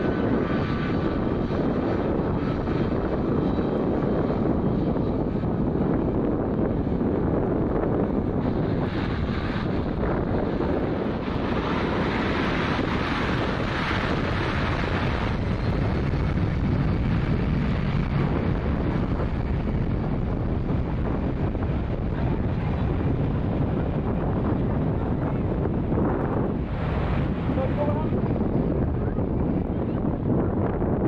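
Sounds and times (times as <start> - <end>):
jet engines at taxi power: 0.0 - 31.0
wind buffeting microphone: 0.0 - 31.0.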